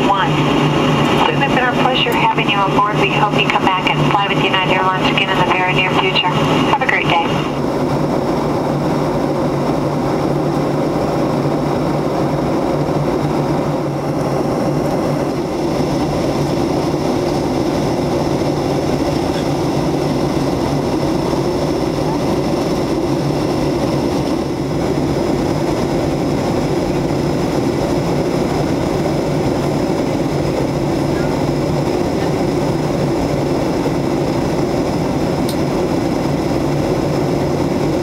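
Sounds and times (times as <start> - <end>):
jet cabin engine drone: 0.0 - 38.0.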